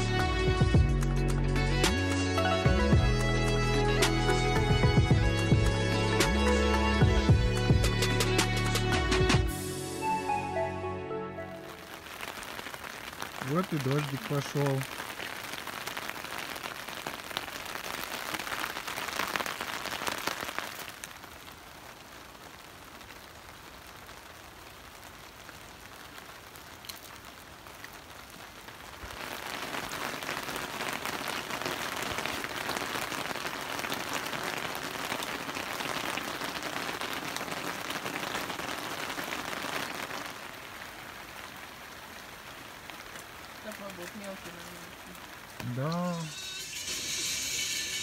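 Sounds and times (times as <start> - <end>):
rain falling: 0.0 - 48.0.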